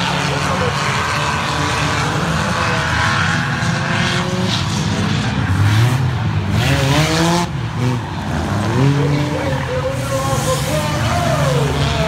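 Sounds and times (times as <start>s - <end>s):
cars passing close by: 0.0s - 12.0s
racing car engines: 0.0s - 12.0s.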